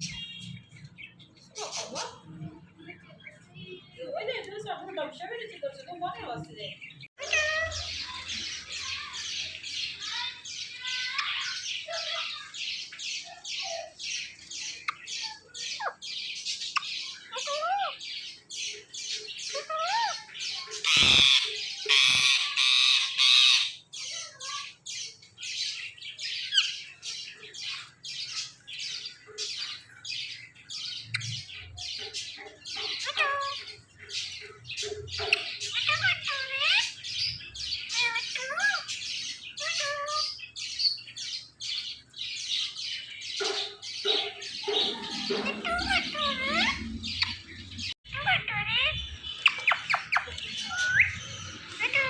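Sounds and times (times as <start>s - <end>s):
parakeets squawking: 0.0s - 52.0s.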